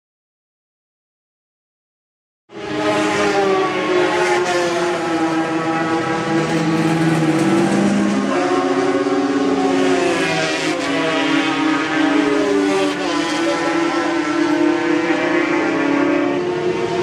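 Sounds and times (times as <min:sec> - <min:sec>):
racing motorcycle engines revving: 0:02.5 - 0:17.0.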